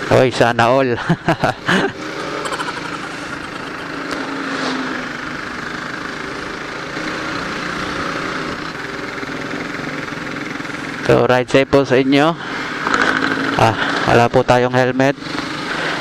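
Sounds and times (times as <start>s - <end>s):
motorcycle engine running: 1.1s - 14.1s.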